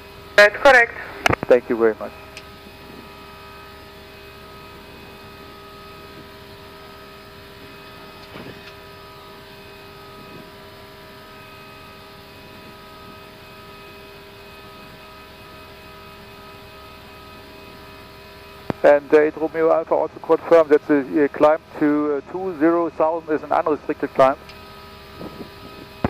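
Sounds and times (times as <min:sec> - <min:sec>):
electrical hum: 0:00.0 - 0:26.0
engine and airflow rush: 0:00.0 - 0:26.0.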